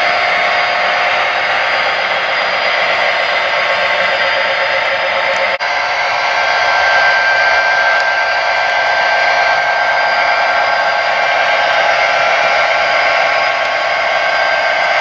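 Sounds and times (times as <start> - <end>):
model train motors whirring: 0.0 - 15.0.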